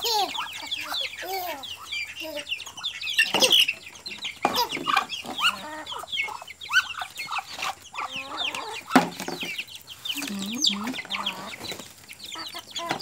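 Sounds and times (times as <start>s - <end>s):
poultry peeping chorus: 0.0s - 13.0s.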